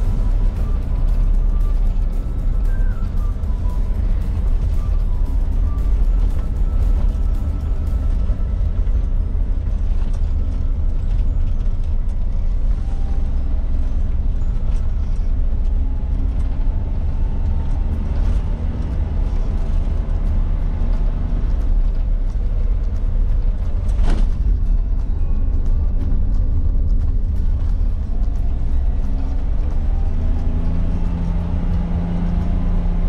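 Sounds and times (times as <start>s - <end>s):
background music: 0.0s - 33.0s
engine and road rumble: 0.0s - 33.0s.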